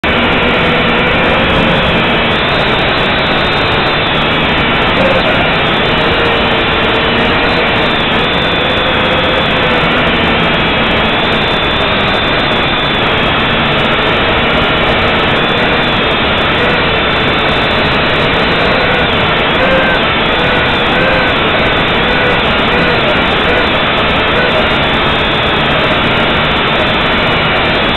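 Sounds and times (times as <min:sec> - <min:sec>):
drone motors buzzing whine: 0:00.0 - 0:27.9.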